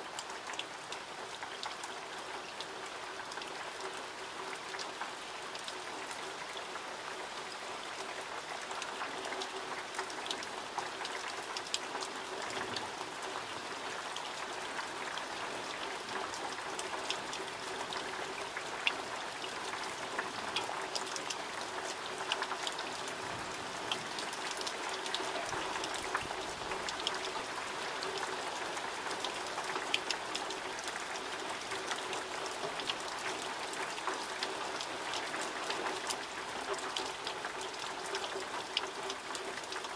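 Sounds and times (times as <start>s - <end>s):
raindrops ticking on surfaces: 0.0s - 39.9s
steady rain falling: 0.0s - 39.9s.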